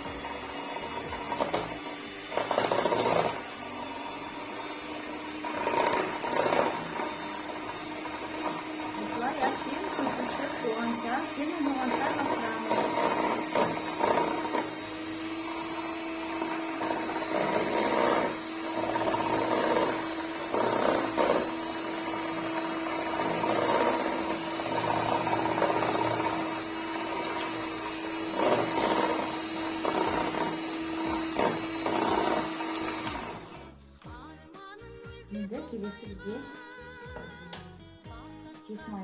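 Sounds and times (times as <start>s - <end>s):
electric hand mixer whine: 0.0s - 34.0s.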